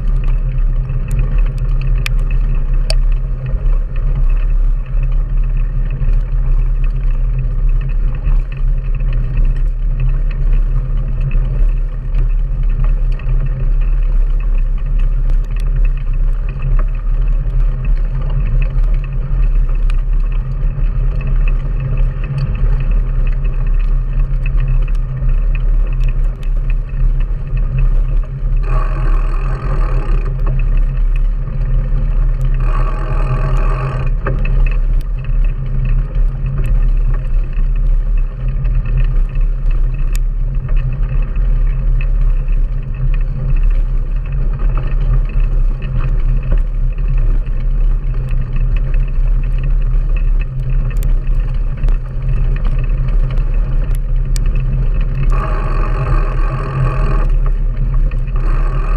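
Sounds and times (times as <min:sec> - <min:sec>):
bike clicks and rattles: 0:00.0 - 0:58.9
wind buffeting and rumble: 0:00.0 - 0:58.9.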